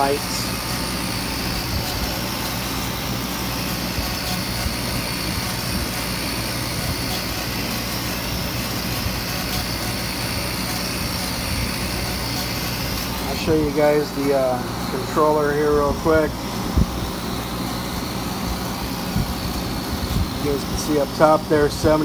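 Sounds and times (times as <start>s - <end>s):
laser engraver whirring: 0.0s - 22.0s.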